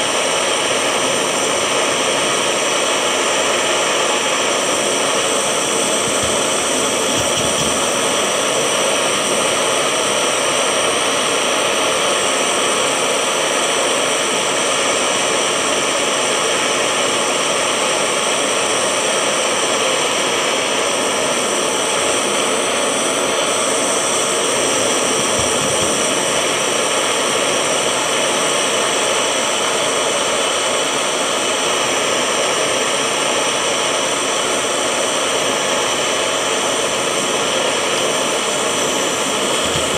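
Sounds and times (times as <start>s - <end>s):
gas torch hissing: 0.0s - 39.9s.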